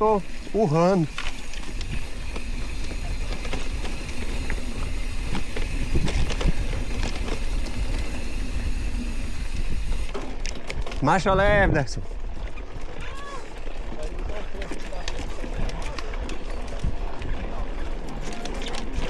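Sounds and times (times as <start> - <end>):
wind rumble on microphone: 0.0 - 13.4, 15.4 - 19.0
bike clicks and rattles: 0.0 - 19.0
bike tyre noise on dirt: 0.0 - 19.0.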